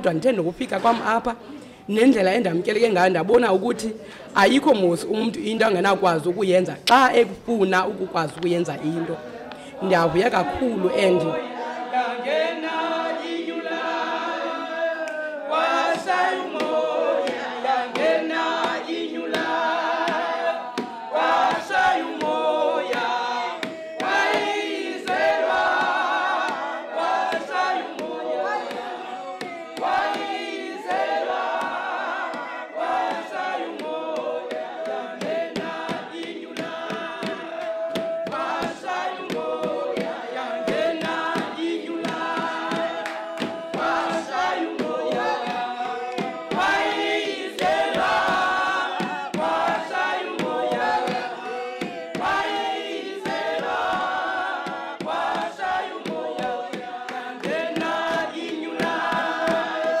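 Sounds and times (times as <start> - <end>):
choir singing: 7.8 - 60.0.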